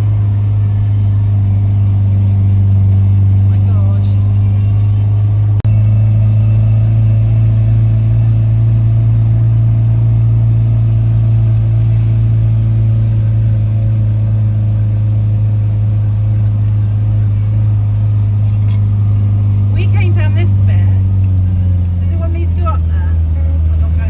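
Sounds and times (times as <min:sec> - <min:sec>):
vehicle engine under heavy load: 0:00.0 - 0:24.0.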